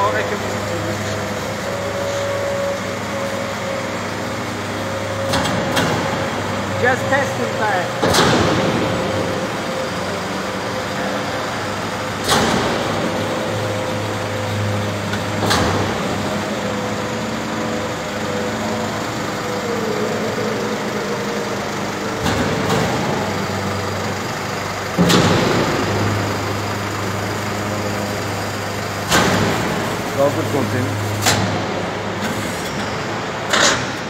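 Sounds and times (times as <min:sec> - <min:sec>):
hydraulic hum and pump whine: 0:00.0 - 0:34.0.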